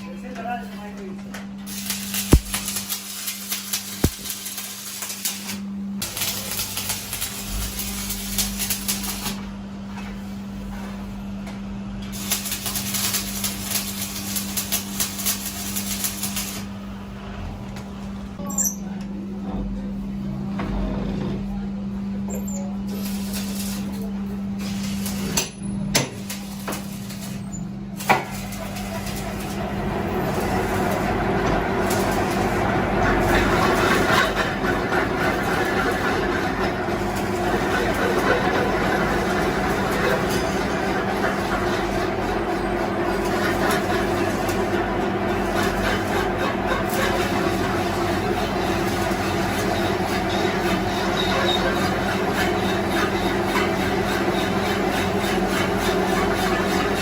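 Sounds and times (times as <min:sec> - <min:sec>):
low machine hum: 0:00.0 - 0:51.1.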